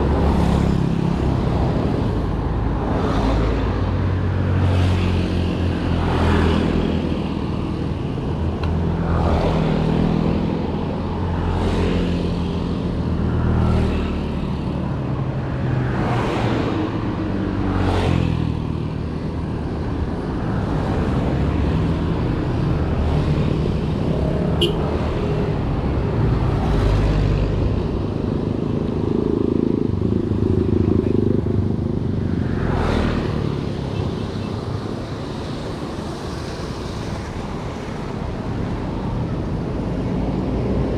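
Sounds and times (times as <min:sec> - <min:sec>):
road noise: 0:00.0 - 0:40.9.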